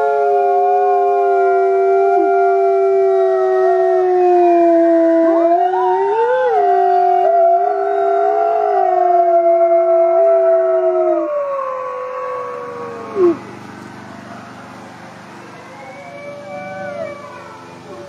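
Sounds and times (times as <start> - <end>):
wolves howling in chorus: 0.0 - 13.4, 15.4 - 18.0.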